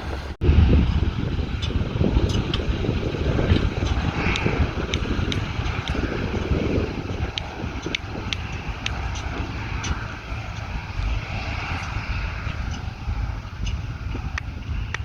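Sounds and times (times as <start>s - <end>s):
combine harvester engine rumble: 0.0s - 15.0s
constant rushing noise: 0.0s - 15.0s
sharp ticks: 1.6s - 15.0s.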